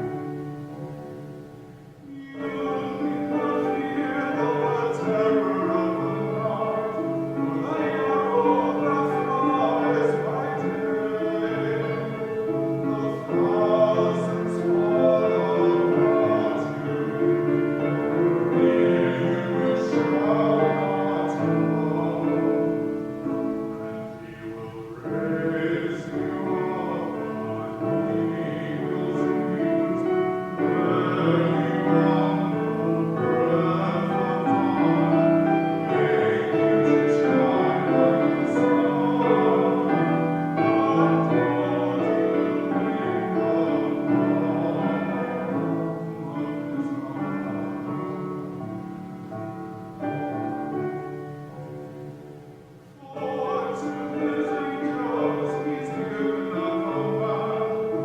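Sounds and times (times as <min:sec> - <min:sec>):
voices singing long notes: 0:00.0 - 0:58.0.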